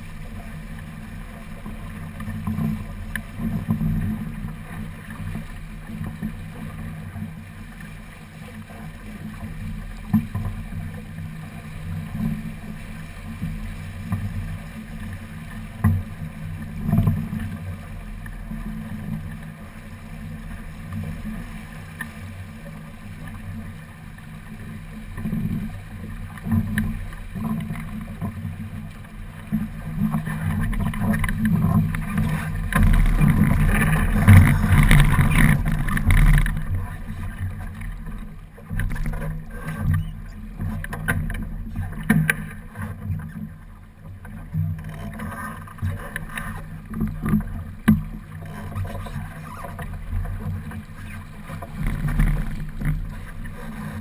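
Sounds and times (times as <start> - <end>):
water rushing along hull: 0.0 - 54.0
wind rumbling on microphone: 0.0 - 54.0.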